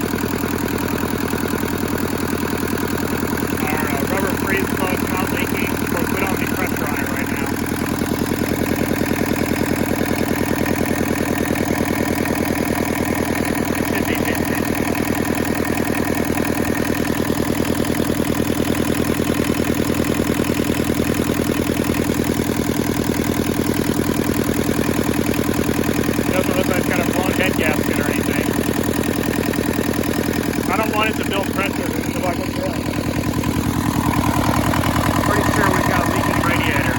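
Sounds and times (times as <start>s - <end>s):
tractor diesel engine idling: 0.0s - 36.9s.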